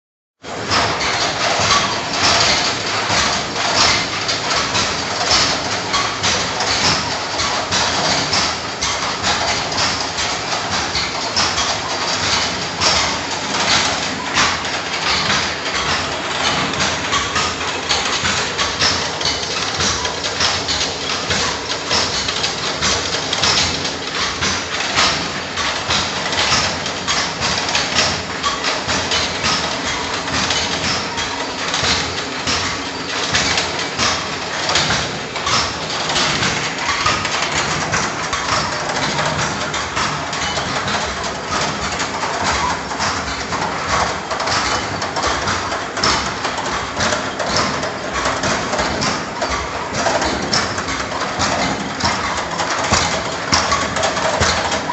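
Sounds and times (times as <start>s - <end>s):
grinding mill running: 0.4s - 54.9s.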